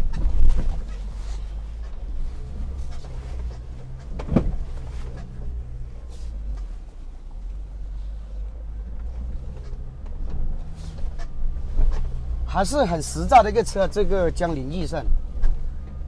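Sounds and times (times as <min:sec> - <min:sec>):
diesel engine running low: 0:00.0 - 0:16.0.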